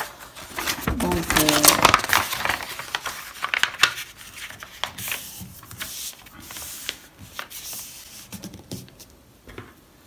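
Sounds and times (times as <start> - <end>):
paper rustling and crinkling: 0.0 - 9.2.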